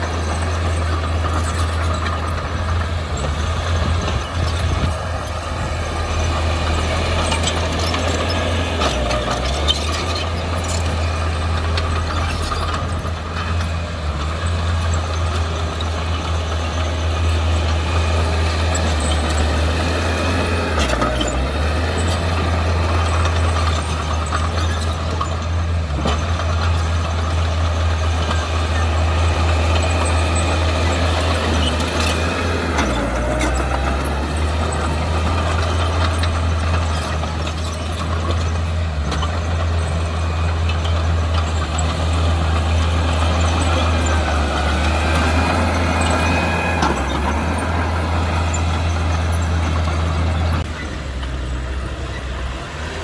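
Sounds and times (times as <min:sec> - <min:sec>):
diesel engine droning under load: 0:00.0 - 0:53.0.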